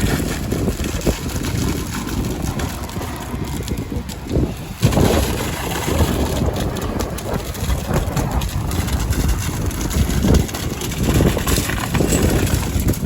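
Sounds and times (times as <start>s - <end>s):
heavy engine rumbling: 0.0s - 13.0s.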